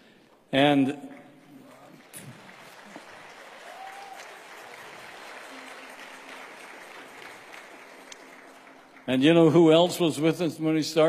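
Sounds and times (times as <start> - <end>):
audience applauding: 1.1 - 10.3.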